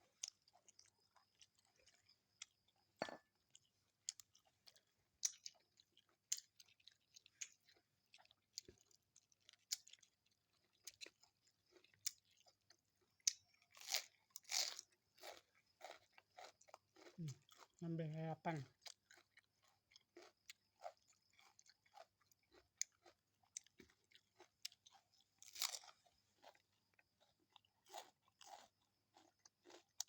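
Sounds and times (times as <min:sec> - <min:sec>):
person chewing with crunches: 0:00.0 - 0:30.0.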